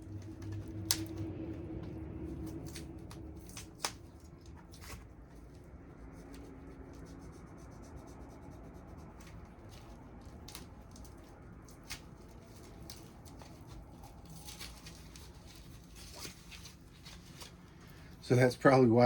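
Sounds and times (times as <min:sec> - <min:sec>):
packaging rustling and scraping: 0:00.0 - 0:06.5, 0:09.0 - 0:18.3
steady low hum: 0:00.0 - 0:19.0.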